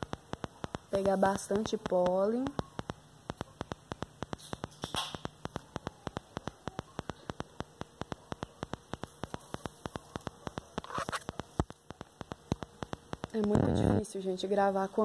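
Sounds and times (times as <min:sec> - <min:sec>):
rapid clicking: 0:00.0 - 0:13.7
low hum and hiss: 0:00.0 - 0:15.0.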